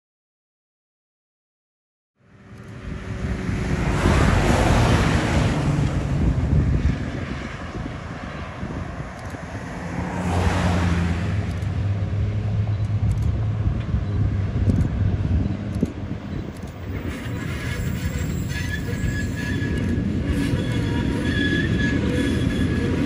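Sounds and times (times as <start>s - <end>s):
locomotive engine hum: 2.2s - 23.0s
wind noise on microphone: 2.4s - 23.0s.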